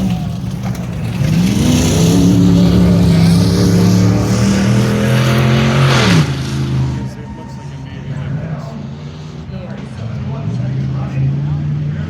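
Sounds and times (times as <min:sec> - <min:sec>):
race truck engines at high revs: 0:00.0 - 0:12.0.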